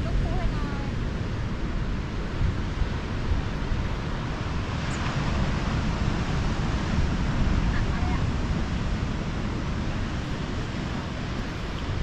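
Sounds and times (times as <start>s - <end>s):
surf hissing on rocks: 0.0s - 12.0s
wind buffeting microphone: 0.0s - 12.0s.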